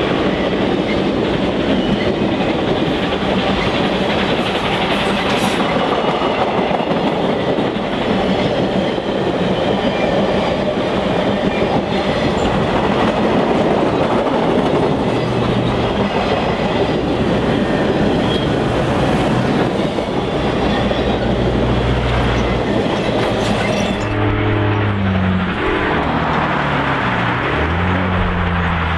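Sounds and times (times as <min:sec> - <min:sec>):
wheels clickety-clack: 0:00.0 - 0:24.1
train cars rolling past: 0:00.0 - 0:28.9.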